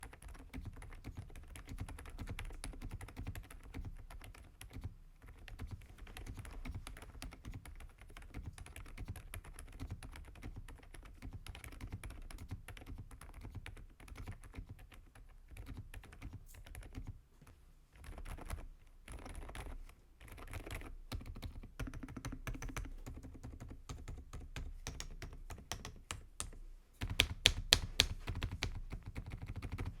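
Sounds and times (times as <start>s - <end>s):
soft keyboard typing: 0.0s - 30.0s.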